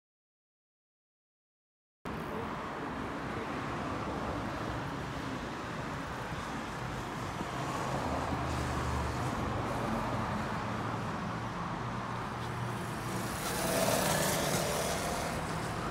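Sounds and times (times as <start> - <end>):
city street traffic: 2.1 - 15.9.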